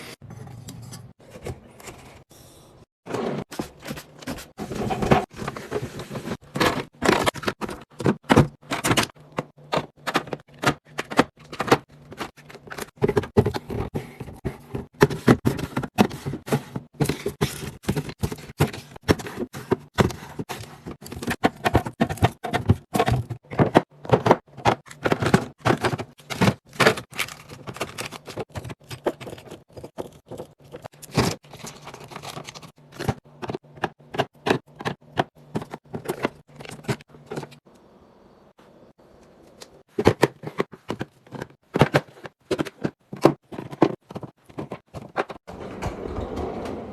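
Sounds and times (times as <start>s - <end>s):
food packages clicking and scraping: 1.0s - 37.9s, 38.9s - 45.5s.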